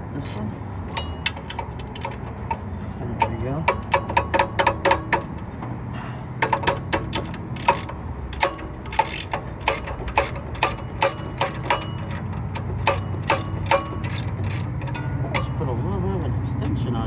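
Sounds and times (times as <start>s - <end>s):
socket ratchet clicking: 0.2s - 5.5s, 6.4s - 15.6s.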